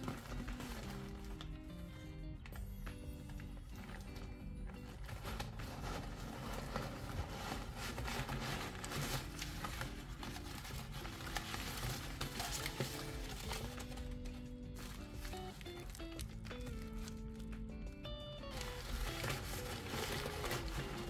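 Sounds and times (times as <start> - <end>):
packaging crinkling and tearing: 0.0 - 1.7, 3.8 - 21.0.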